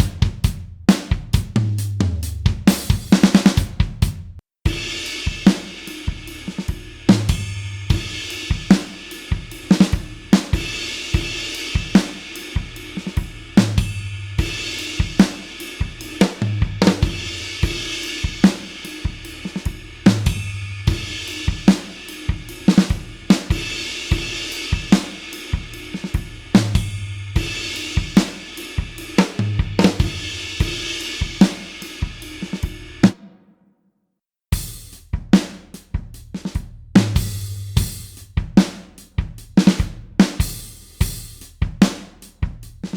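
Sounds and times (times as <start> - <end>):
rock drum kit groove: 0.0 - 33.3, 34.6 - 42.9.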